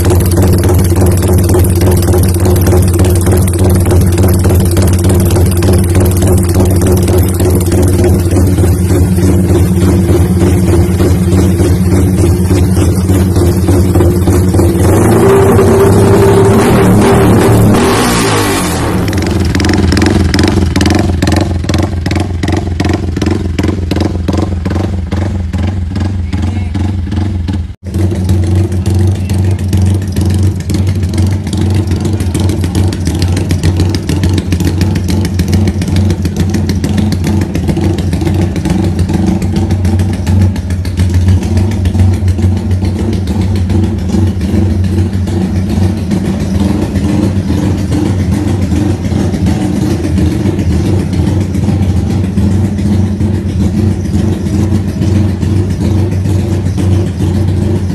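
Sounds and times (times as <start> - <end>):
motorcycle engine revving and idling: 0.0 - 57.9.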